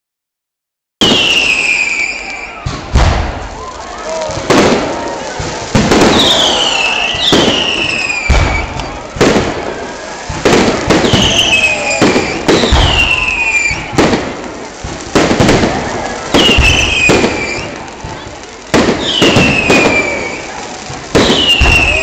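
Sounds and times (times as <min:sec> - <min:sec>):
falling firework whistle: 0:01.0 - 0:22.0
firework shells bursting: 0:01.0 - 0:22.0.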